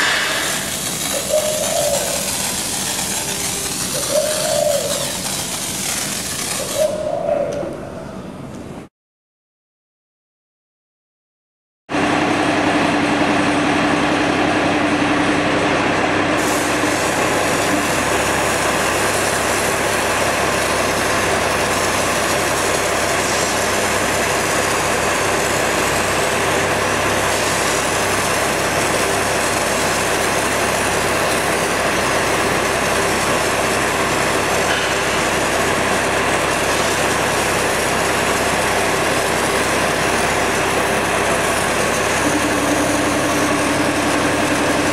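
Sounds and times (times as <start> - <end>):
steady hum: 0.0 - 7.1, 12.0 - 44.9
heavy machinery with hiss: 0.0 - 7.4, 12.0 - 44.9.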